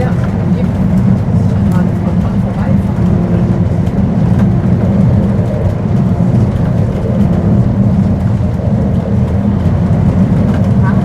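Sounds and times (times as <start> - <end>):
motor hum: 0.0 - 11.0
tram wheels rumbling on rail: 0.0 - 11.0.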